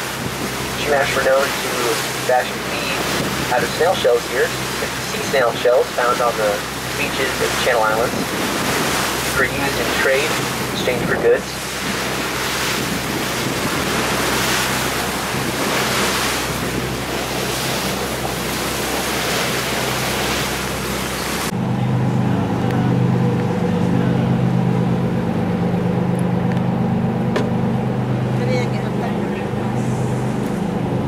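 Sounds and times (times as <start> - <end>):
boat engine droning: 0.0 - 31.0
wind and water rushing: 0.0 - 31.0.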